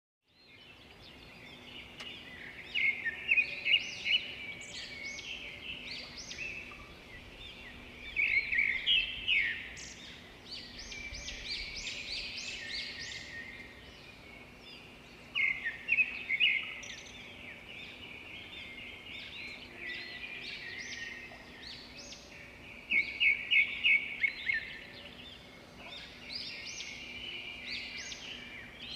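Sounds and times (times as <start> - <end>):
birds chirping and singing: 0.3 - 28.9.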